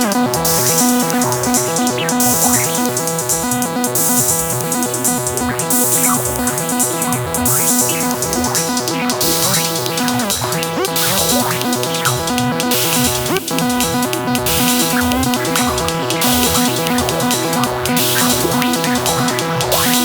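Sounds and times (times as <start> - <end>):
drum machine beat: 0.0 - 20.0
stepped synth notes: 0.0 - 20.0
hissing high synth layer: 4.0 - 20.0.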